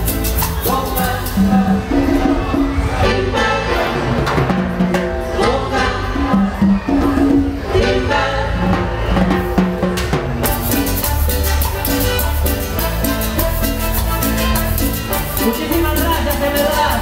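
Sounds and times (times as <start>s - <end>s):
electric bass line: 0.0s - 17.0s
timbales and congas: 0.0s - 17.0s.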